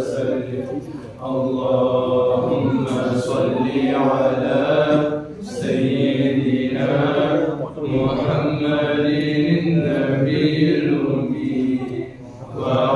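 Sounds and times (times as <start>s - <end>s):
men chanting into a microphone: 0.0s - 12.9s.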